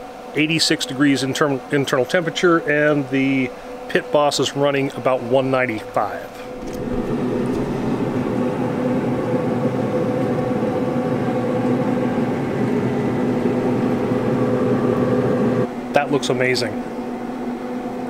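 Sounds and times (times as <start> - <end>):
grill combustion fan humming: 0.0 - 18.0.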